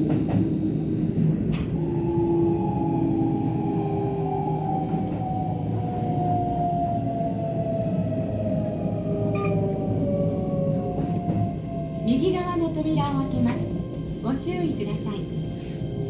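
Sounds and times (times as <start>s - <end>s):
wheels rumbling on rails: 0.0s - 16.0s.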